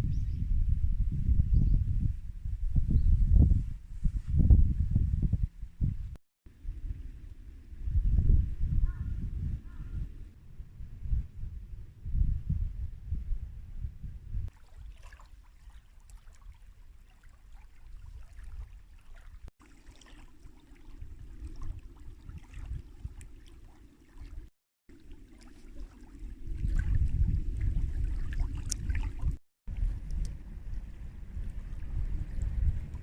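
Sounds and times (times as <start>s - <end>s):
wind rumbling on microphone: 0.0s - 14.6s, 15.6s - 19.5s, 20.2s - 33.0s.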